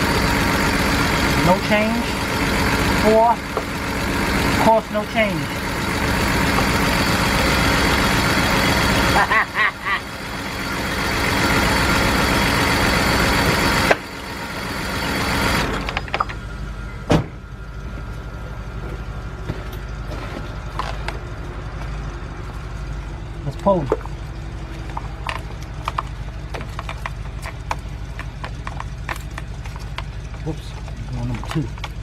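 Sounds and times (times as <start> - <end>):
car engine idling rough: 0.0 - 32.0.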